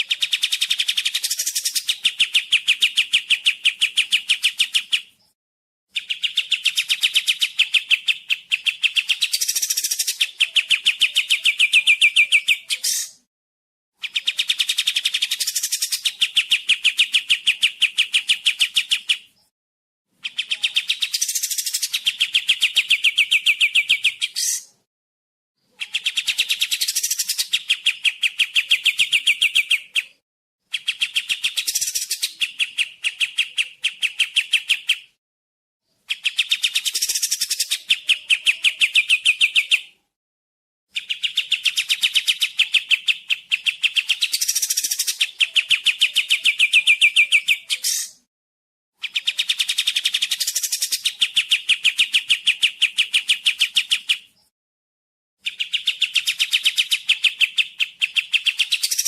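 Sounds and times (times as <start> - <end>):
bird chattering song: 0.0 - 13.2, 14.0 - 19.5, 20.2 - 24.8, 25.6 - 35.2, 35.9 - 40.0, 40.9 - 48.3, 49.0 - 54.5, 55.4 - 59.0.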